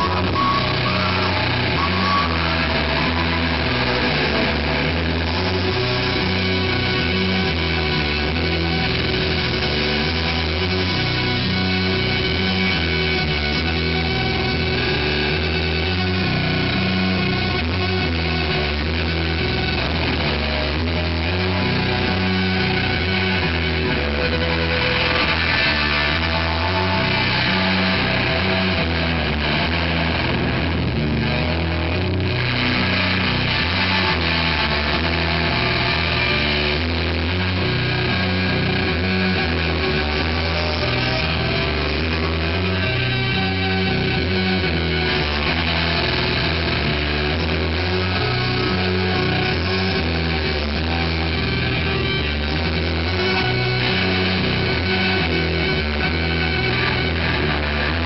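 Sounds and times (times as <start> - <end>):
live instrumental rock: 0.0 - 58.0.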